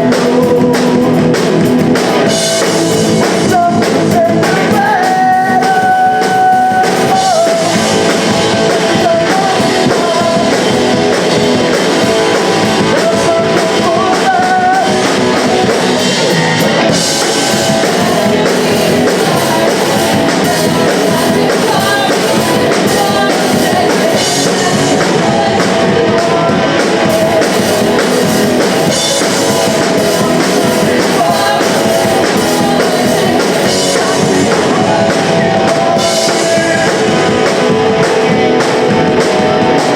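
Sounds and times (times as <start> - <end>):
bass guitar: 0.0 - 39.9
distorted electric guitars: 0.0 - 39.9
drum kit: 0.0 - 39.9
person singing: 0.0 - 39.9.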